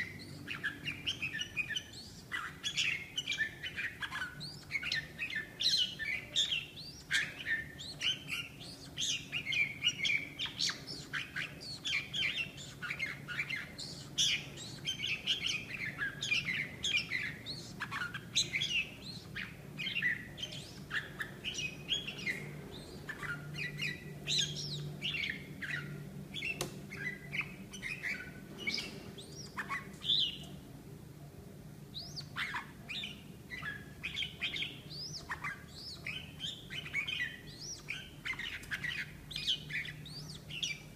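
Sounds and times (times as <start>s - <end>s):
bird chirps and whistles: 0.0s - 30.4s, 31.9s - 40.9s.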